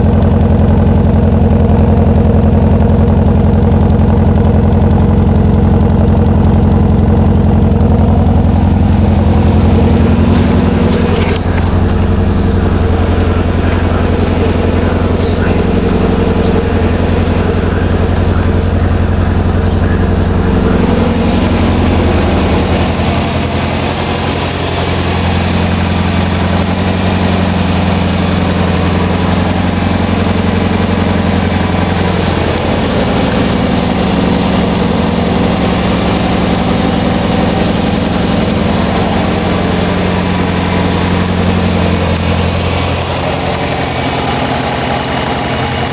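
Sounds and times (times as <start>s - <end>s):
car engine idling with misfire: 0.0s - 45.9s.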